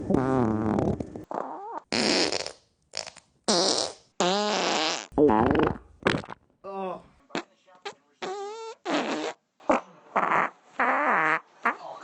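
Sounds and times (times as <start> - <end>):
person farting: 0.0 - 6.5, 7.3 - 11.9.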